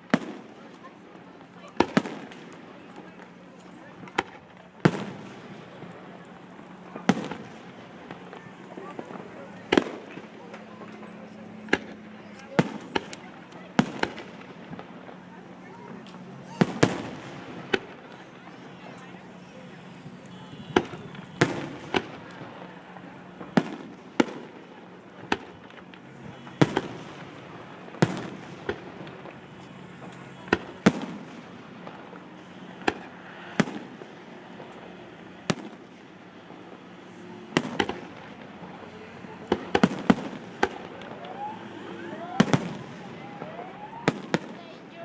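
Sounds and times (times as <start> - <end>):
fireworks bangs: 0.0 - 45.0
rumble after fireworks: 0.0 - 45.0.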